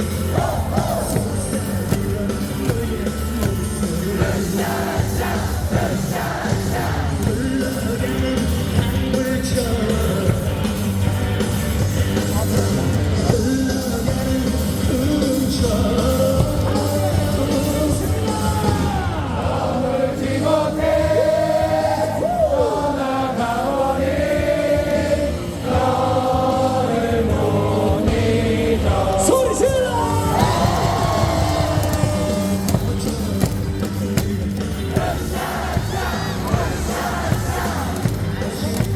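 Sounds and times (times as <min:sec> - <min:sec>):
crowd singing along: 0:00.0 - 0:38.9
music over stadium loudspeakers: 0:00.0 - 0:38.9.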